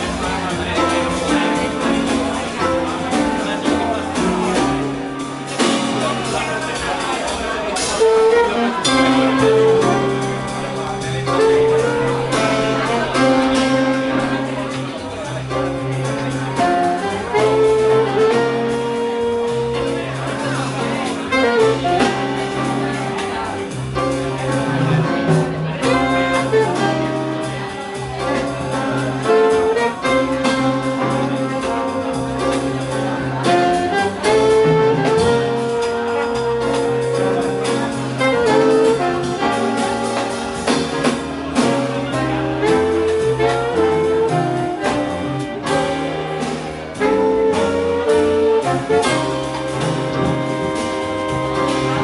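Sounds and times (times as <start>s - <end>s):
small jazz band playing: 0.0s - 52.0s.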